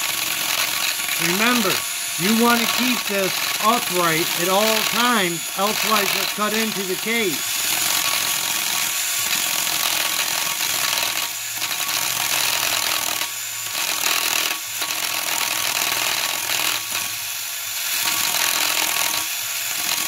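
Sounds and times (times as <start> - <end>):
drill cutting metal: 0.0 - 20.0.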